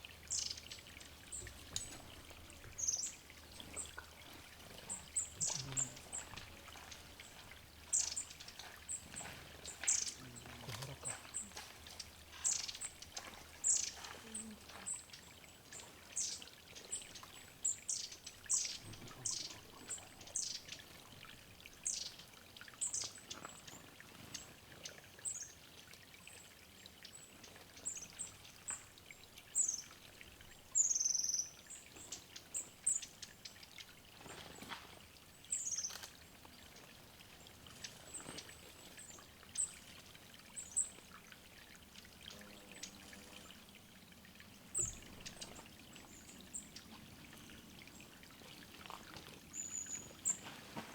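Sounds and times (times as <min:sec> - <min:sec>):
songbirds calling: 0:00.0 - 0:50.9
water trickling: 0:00.0 - 0:50.9.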